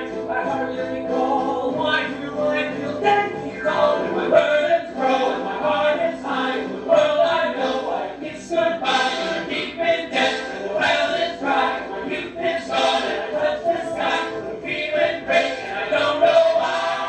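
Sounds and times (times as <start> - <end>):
male vocal ensemble singing: 0.0 - 17.0.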